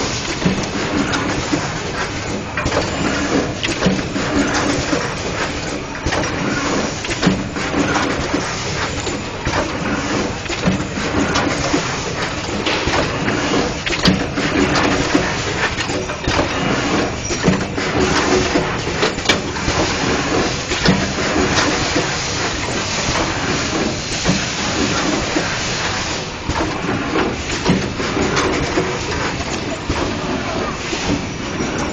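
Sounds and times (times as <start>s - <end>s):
machine parts clacking: 0.0s - 25.5s, 26.5s - 31.9s
mechanical hum: 0.0s - 31.9s.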